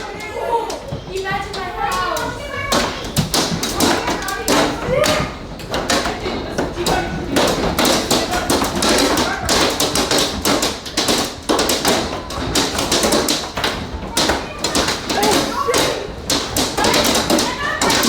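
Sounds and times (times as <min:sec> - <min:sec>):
hailstones pelting a house: 0:00.0 - 0:18.0.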